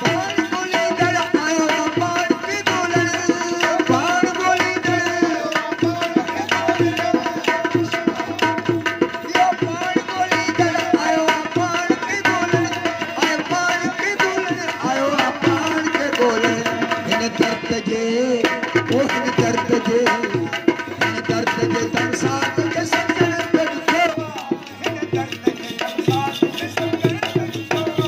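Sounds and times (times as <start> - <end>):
hand percussion beat: 0.0 - 28.0
harmonium: 0.0 - 28.0.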